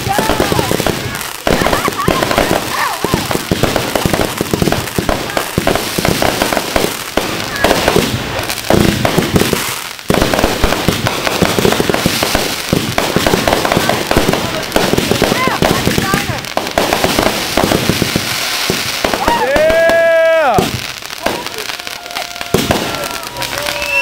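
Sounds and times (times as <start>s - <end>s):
firework crackling pops and bangs: 0.0s - 24.0s.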